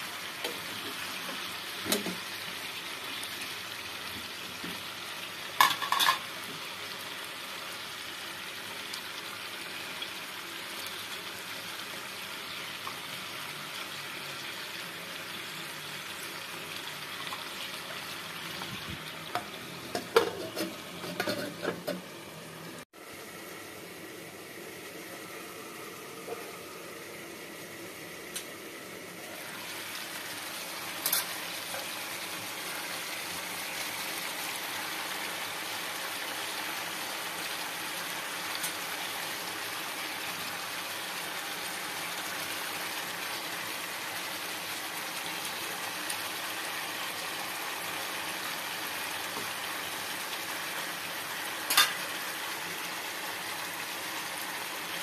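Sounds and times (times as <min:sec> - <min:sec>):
meat sizzling in a pan: 0:00.0 - 0:22.4, 0:23.0 - 0:55.0.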